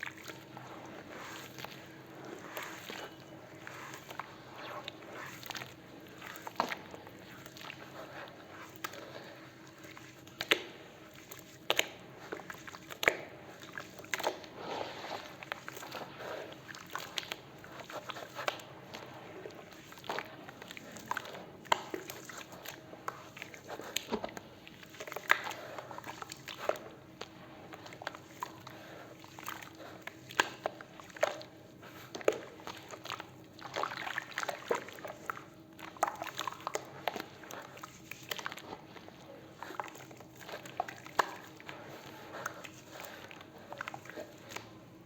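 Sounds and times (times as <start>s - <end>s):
concrete crumbling and mixing by hand: 0.0s - 44.8s
faint steady hum: 0.0s - 45.0s.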